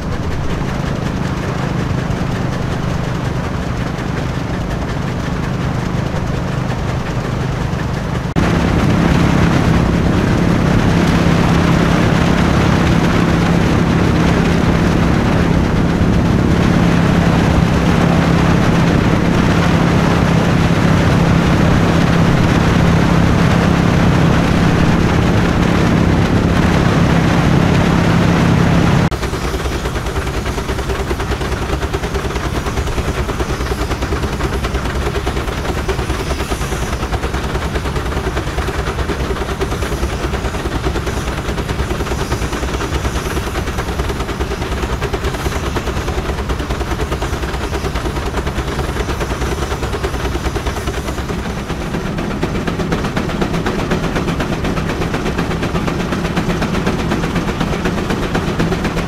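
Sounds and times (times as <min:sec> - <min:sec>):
steam engine running: 0:00.0 - 0:59.0.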